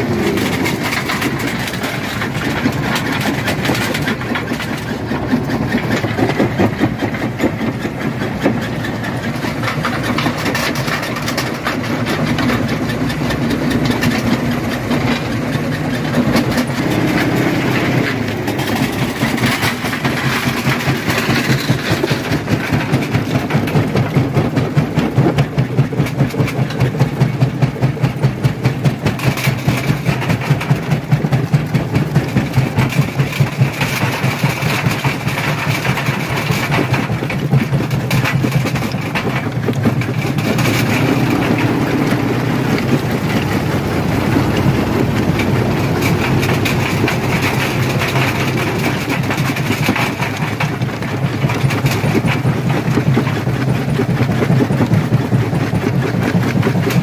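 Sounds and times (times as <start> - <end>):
heavy machine hum: 0.0 - 57.0.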